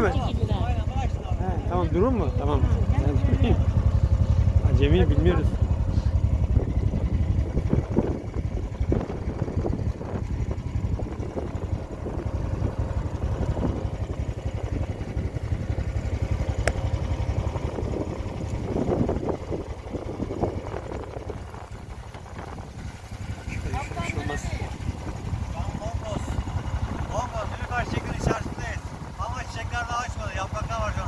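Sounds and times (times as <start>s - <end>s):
boat engine rumbling: 0.0s - 31.0s.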